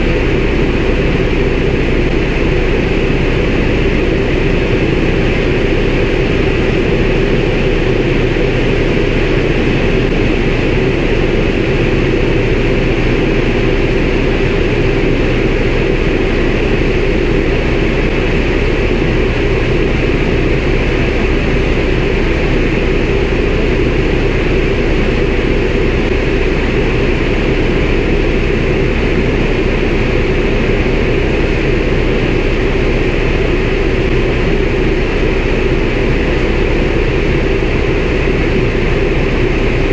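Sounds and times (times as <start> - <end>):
air noise: 0.0 - 39.9
propeller aircraft engine drone: 0.0 - 39.9.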